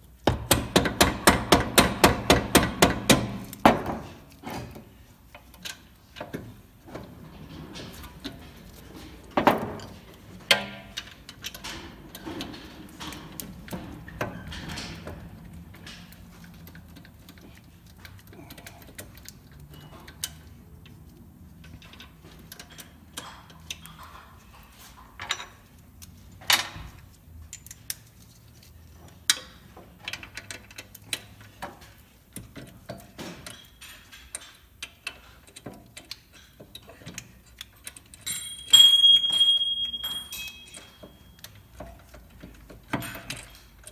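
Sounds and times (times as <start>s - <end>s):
metallic clicks and knocks: 0.3s - 43.9s.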